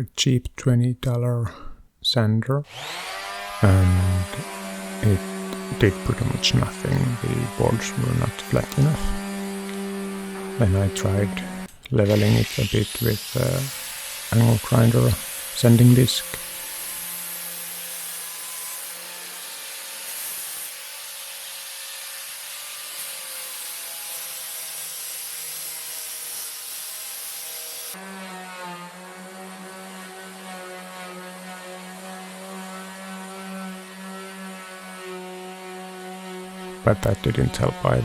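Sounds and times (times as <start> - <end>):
angle grinder sanding wood: 2.7 - 38.0.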